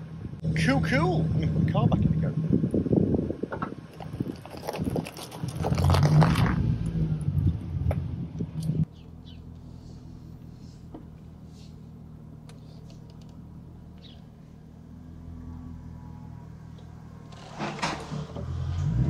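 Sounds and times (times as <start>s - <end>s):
car engine running at low speed: 0.0s - 19.0s.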